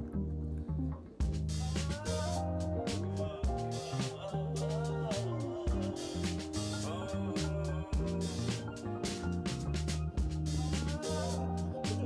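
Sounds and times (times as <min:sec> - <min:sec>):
background music with drums: 0:01.2 - 0:12.0.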